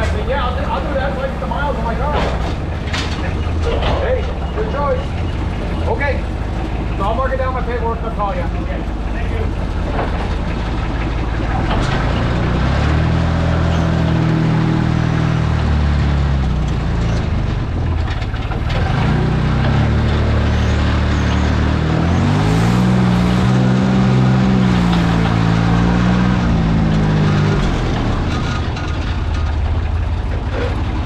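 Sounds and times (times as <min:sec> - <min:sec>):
truck engine driving off: 0:00.0 - 0:31.0.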